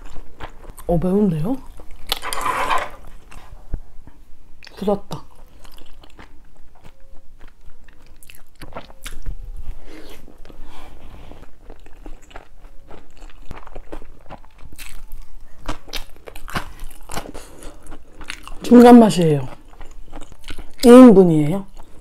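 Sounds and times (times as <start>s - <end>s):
mouth chewing food: 0.0s - 2.3s, 3.0s - 22.0s.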